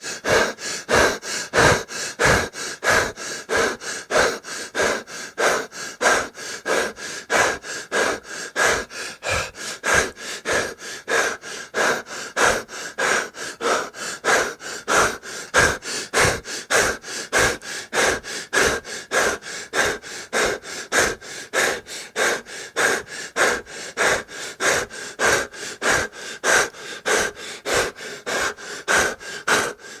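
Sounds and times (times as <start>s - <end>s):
person breathing fast and hard: 0.0s - 30.0s.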